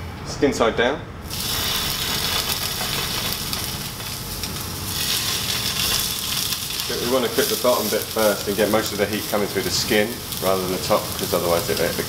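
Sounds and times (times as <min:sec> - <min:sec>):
fish sizzling in frying pan: 0:01.3 - 0:12.0.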